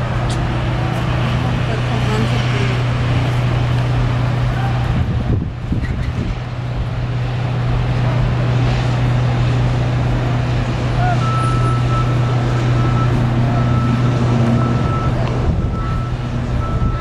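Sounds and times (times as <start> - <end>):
large engine drone: 0.0 - 17.0.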